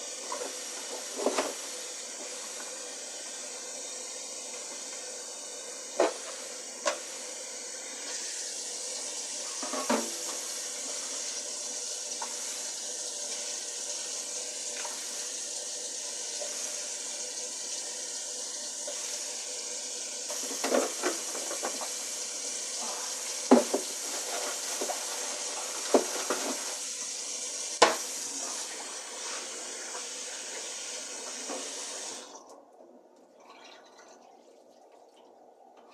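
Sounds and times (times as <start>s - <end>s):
water running in a sink: 0.0s - 32.5s.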